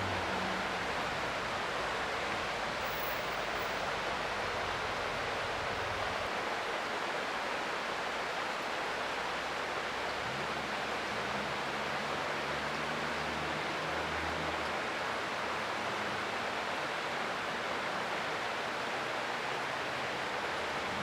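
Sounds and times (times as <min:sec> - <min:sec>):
creek water running over rocks: 0:00.0 - 0:21.0.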